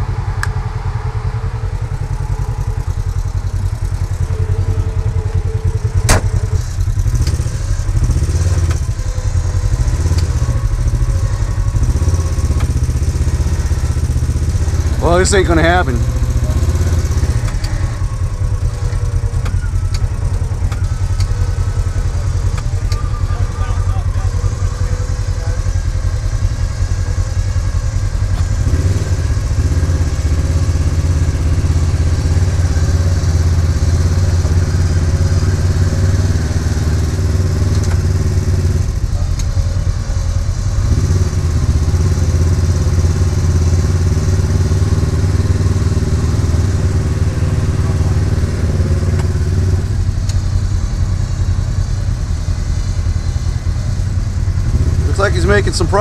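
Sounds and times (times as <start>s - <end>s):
vehicle engine idling: 0.0s - 56.0s
winch whining under load: 0.0s - 56.0s.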